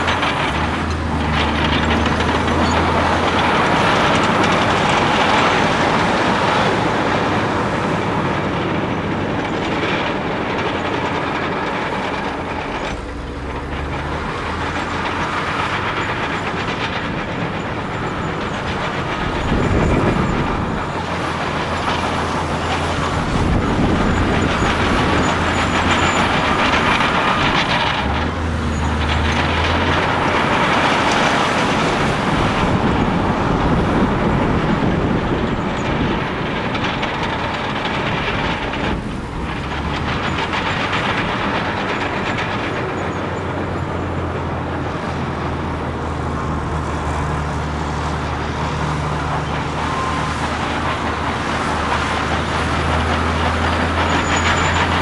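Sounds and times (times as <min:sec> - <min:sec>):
bulldozer diesel engine: 0:00.0 - 0:55.0
steel tracks clanking: 0:00.0 - 0:55.0.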